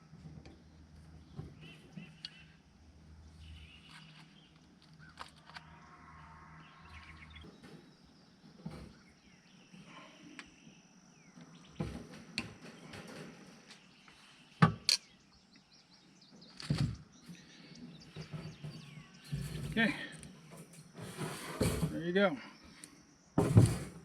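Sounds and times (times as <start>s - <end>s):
small birds chirping: 0.4s - 5.9s, 6.6s - 21.3s.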